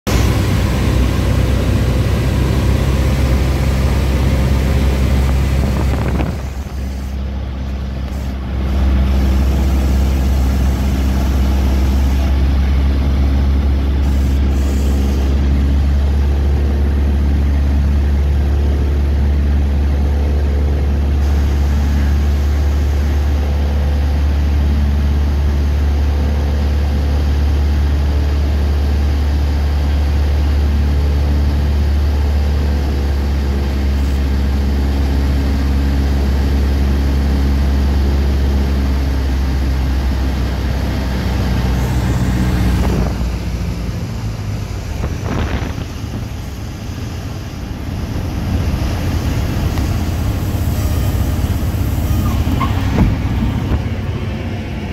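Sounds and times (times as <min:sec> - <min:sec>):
airplane engine droning: 0:00.0 - 0:54.9.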